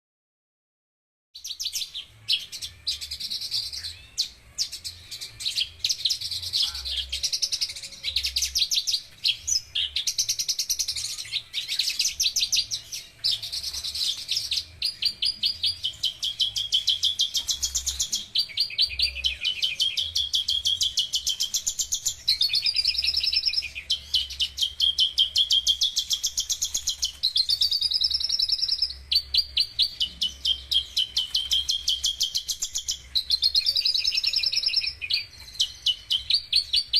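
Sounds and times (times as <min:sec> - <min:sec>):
bird singing fast trills: 0:01.4 - 0:36.9.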